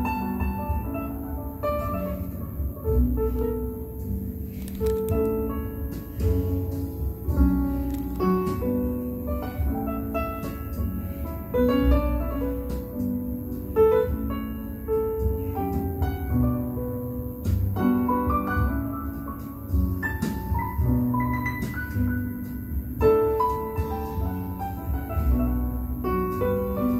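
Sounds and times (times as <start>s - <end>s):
piano music over hi-fi: 0.0s - 26.9s.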